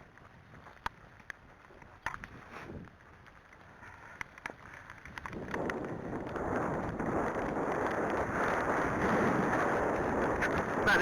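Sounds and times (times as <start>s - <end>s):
wind buffeting microphone: 2.0s - 11.0s.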